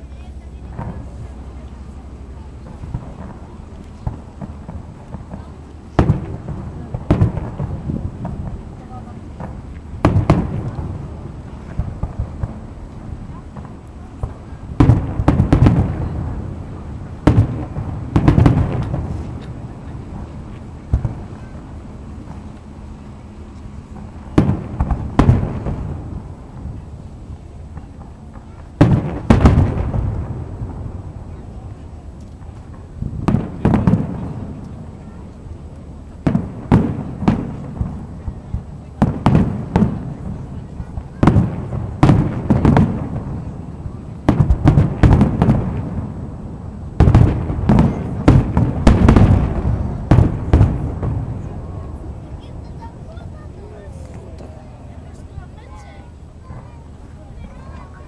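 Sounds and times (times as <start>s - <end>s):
fireworks bursting: 0.0s - 58.0s
low rolling rumble: 0.0s - 58.0s.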